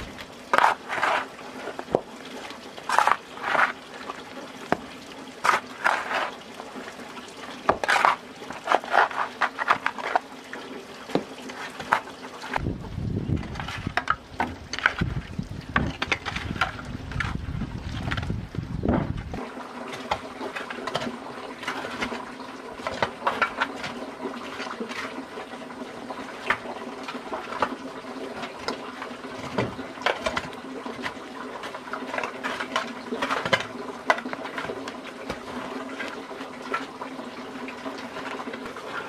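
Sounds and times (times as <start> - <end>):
water running and splashing: 0.0 - 39.0.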